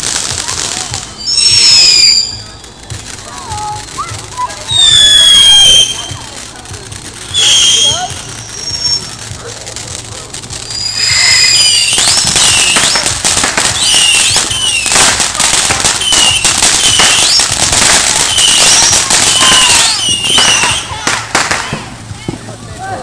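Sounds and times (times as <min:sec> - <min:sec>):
firework crackling and whistling: 0:00.0 - 0:23.0.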